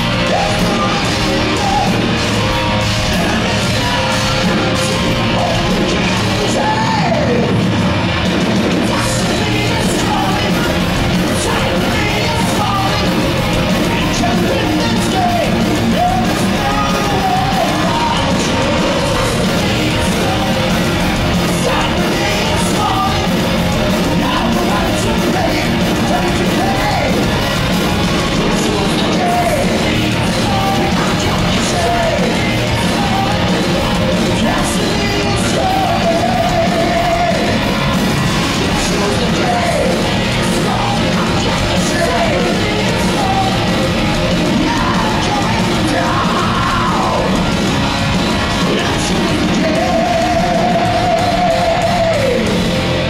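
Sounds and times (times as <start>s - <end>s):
man singing: 0.0s - 7.7s, 8.7s - 53.0s
distorted guitars: 0.0s - 53.0s
drums: 0.0s - 53.0s.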